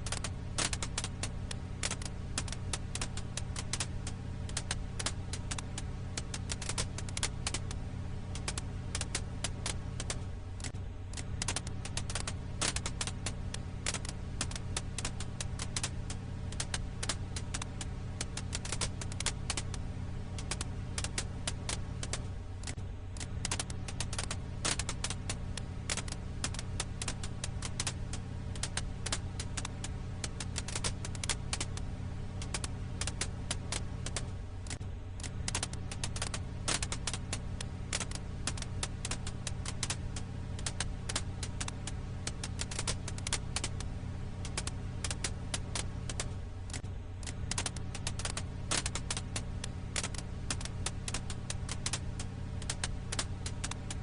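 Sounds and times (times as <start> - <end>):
firewood crackling: 0.0 - 54.0
low hum: 0.0 - 54.0.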